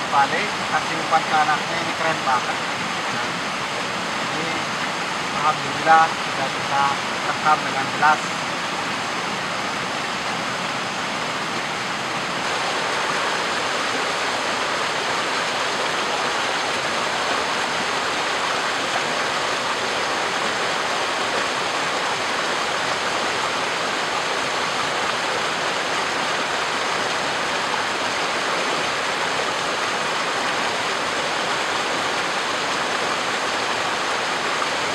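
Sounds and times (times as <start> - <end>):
stream rushing past rocks: 0.0 - 34.9.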